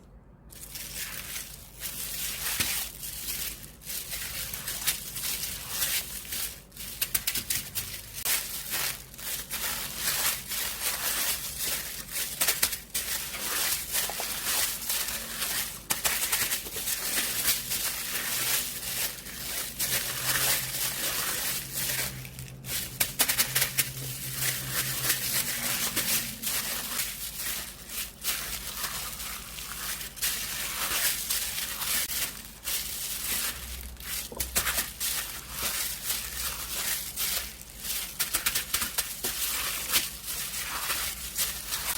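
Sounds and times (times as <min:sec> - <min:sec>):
slime crinkling and popping: 0:00.6 - 0:41.9.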